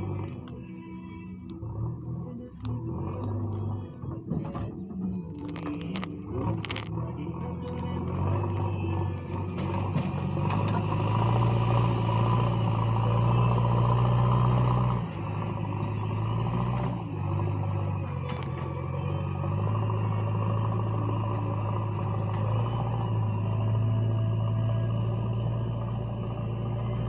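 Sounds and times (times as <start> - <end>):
diesel engine under heavy load: 0.0 - 27.0.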